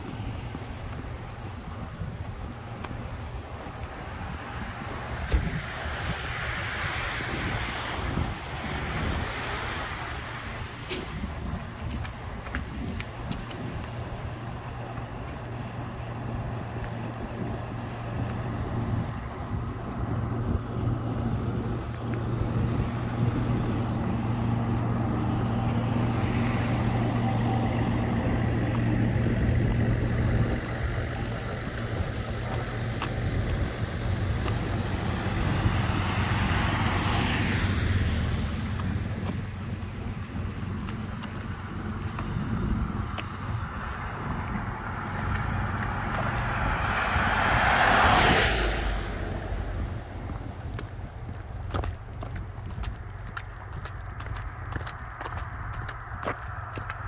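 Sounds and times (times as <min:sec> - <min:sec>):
low engine hum: 0:00.0 - 0:57.0
tyres hissing on wet road: 0:00.0 - 0:57.0.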